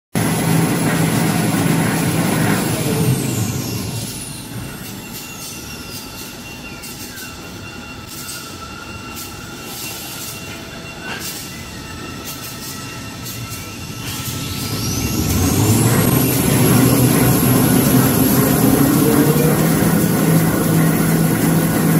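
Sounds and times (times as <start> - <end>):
high drive whine: 0.2 - 21.9
production line machinery din: 0.2 - 21.9.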